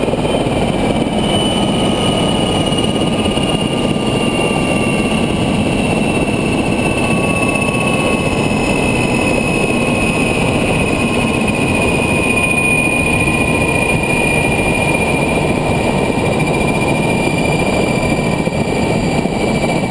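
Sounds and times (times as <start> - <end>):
helicopter turbine and rotor: 0.0 - 19.9.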